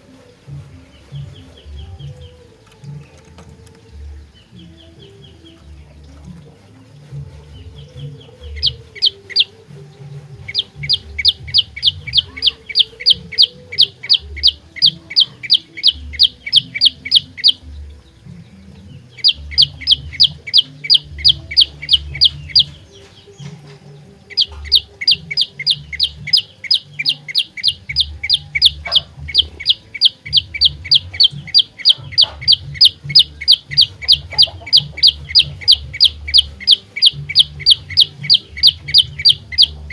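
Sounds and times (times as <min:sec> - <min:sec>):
bird singing rapid repeated note: 0:00.0 - 0:39.9.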